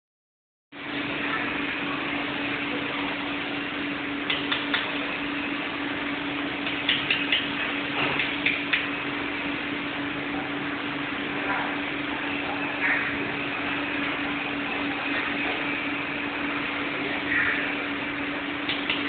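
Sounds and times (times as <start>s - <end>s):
constant low hum: 0.8s - 19.0s.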